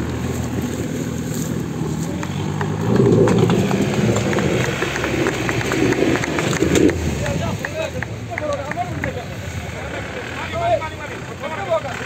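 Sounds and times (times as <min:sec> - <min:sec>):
jeep engine running hard: 0:00.0 - 0:12.0.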